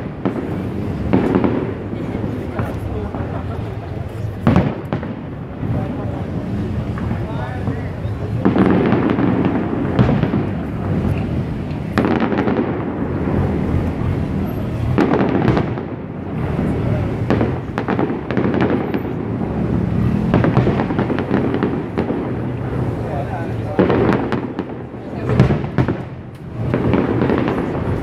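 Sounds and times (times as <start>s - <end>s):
fireworks crackle and rumble: 0.0s - 28.0s
fireworks shells booming: 0.0s - 28.0s.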